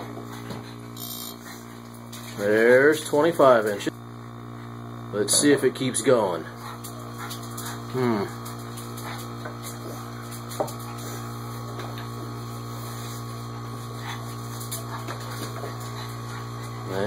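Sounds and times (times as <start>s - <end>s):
compressor humming: 0.0s - 17.0s.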